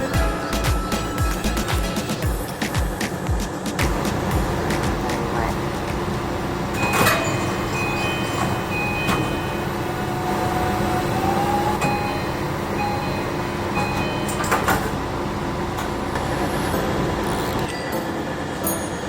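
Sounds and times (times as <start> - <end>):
train door chime: 0.0 - 10.2, 11.8 - 19.0
train hum: 0.0 - 19.0.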